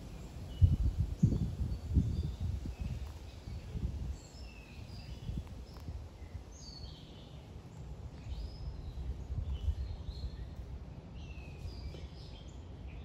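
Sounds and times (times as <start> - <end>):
low rumbling background noise: 0.0 - 13.0
small birds chirping: 0.0 - 13.0.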